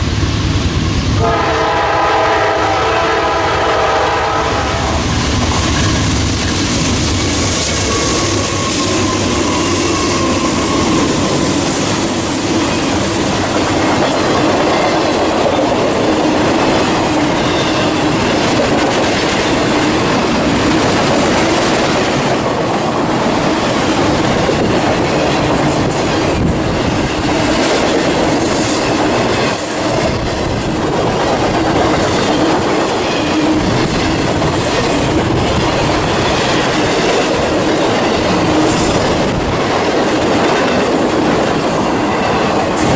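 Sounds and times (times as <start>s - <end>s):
train wheels clattering over rail: 4.9s - 42.9s.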